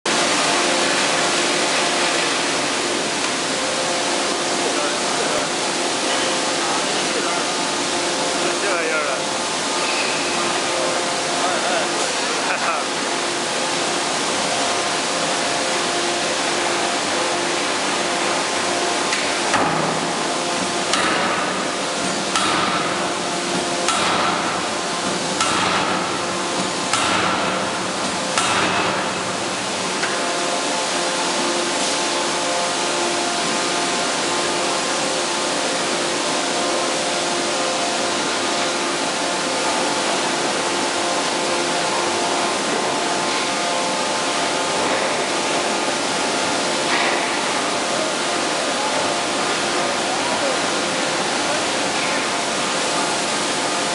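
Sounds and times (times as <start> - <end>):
steady machinery noise: 0.1 - 53.9.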